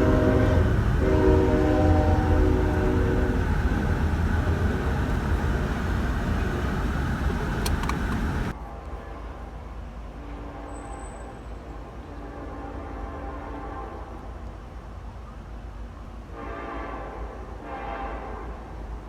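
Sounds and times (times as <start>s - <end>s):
train horn: 0.0s - 14.5s, 16.1s - 19.0s
train rumbling past: 0.0s - 19.0s.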